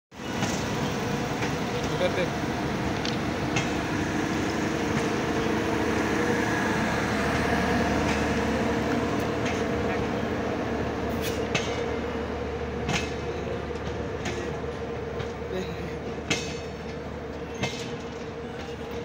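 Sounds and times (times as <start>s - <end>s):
train rolling past: 0.1s - 19.0s.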